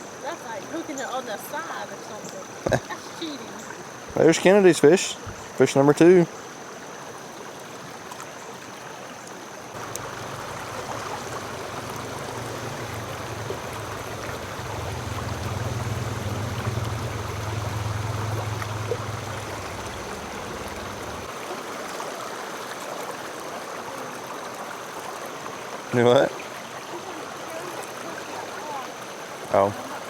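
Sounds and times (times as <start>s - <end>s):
creek water running: 0.0s - 30.0s.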